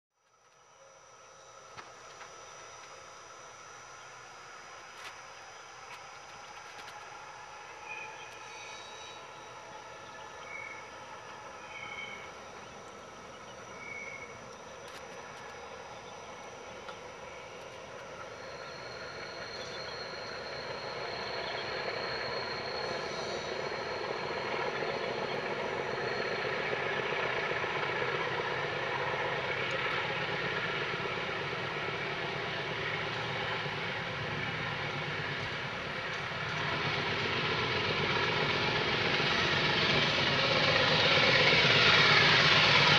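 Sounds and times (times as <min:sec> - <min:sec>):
high steady whine: 0:00.1 - 0:42.9
diesel locomotive engines: 0:00.2 - 0:42.9.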